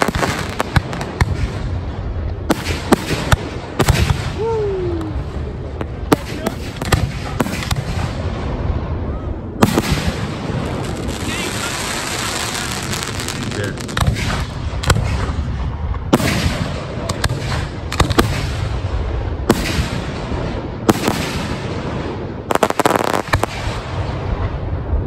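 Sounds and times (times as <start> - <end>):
crackling firework bangs: 0.0 - 4.5, 5.7 - 24.9.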